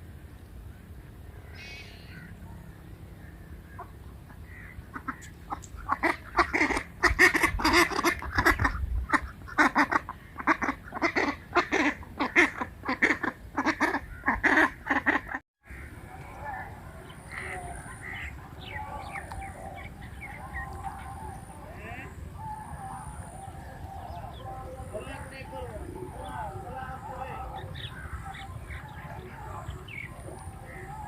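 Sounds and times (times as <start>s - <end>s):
ducks quacking: 3.6s - 31.0s.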